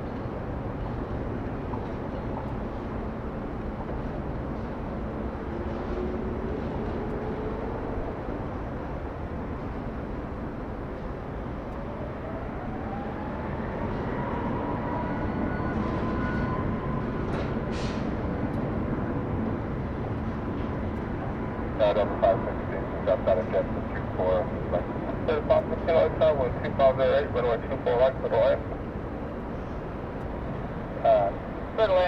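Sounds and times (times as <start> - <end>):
jet engine rumble and whine: 0.0 - 32.0.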